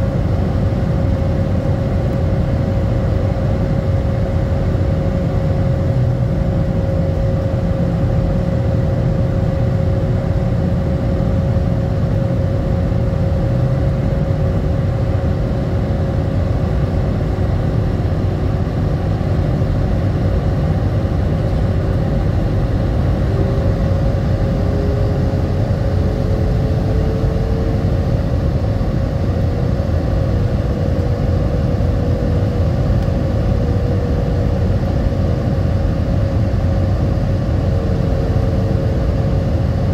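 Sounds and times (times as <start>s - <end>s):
jet engine roar in cabin: 0.0s - 39.9s
rising hum: 4.3s - 39.7s.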